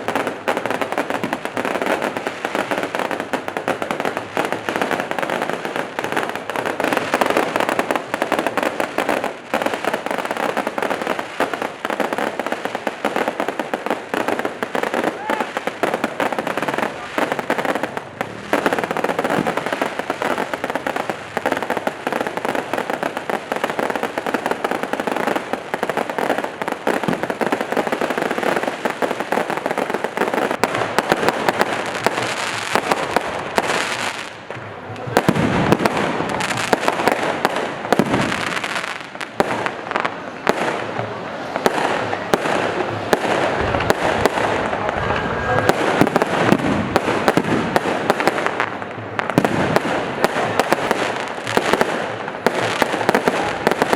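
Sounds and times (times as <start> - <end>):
fireworks cracking and banging: 0.0 - 53.9.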